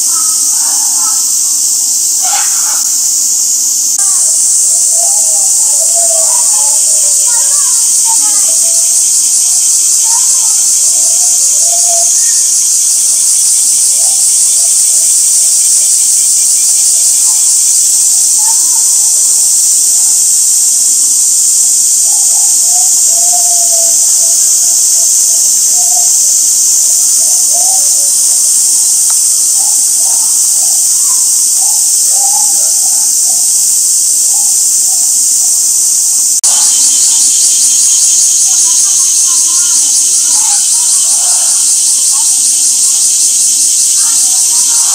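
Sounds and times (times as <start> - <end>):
cicadas droning: 0.0 - 44.9.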